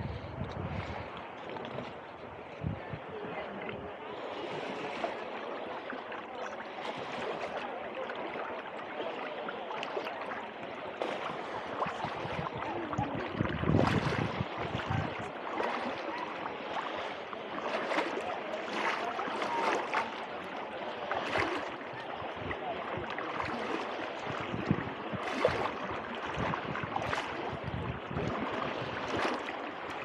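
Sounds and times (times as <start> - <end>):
small waves lapping at shoreline: 0.0 - 30.0.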